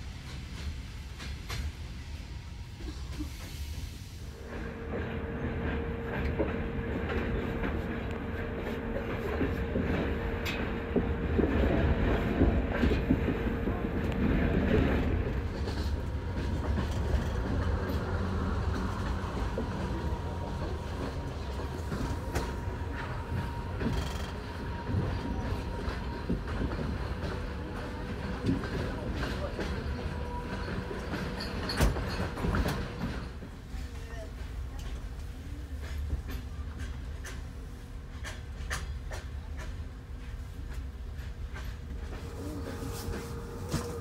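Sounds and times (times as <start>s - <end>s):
train wheels rumbling and clicking: 0.0s - 44.0s.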